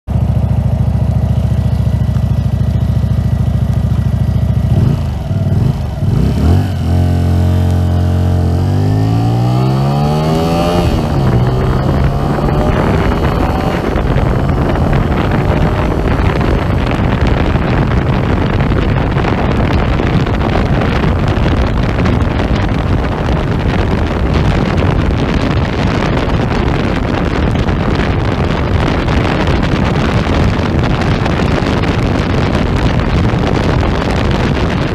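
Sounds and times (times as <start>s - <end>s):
motorcycle engine: 0.1s - 34.9s
wind noise on microphone: 0.1s - 34.9s.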